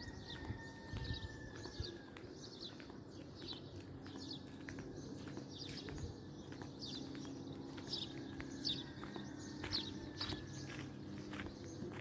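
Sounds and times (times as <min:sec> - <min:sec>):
bird chirping: 0:01.1 - 0:12.0.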